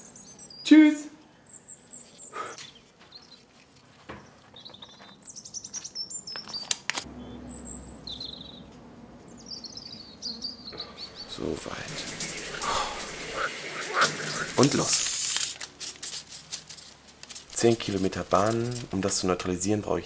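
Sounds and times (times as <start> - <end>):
birds chirping: 0.0 - 15.4, 17.6 - 19.0.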